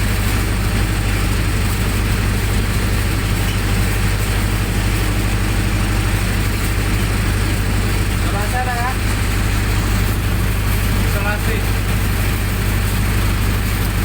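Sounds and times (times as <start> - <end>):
generator engine humming: 0.0 - 14.0.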